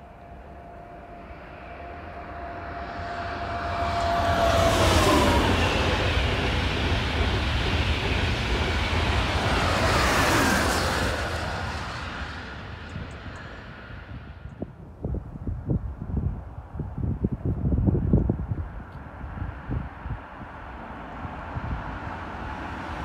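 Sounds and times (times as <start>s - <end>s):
high-speed train rushing past: 0.0s - 23.0s
train whine: 0.0s - 23.0s.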